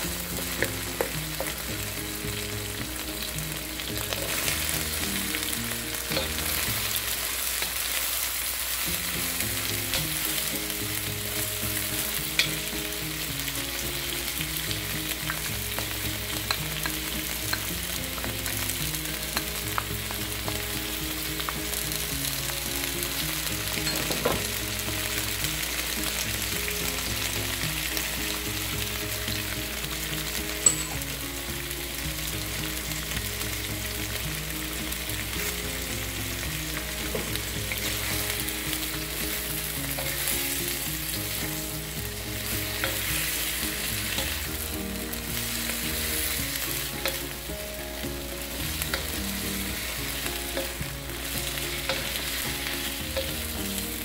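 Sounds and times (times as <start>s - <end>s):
food sizzling in a wok: 0.0s - 54.0s.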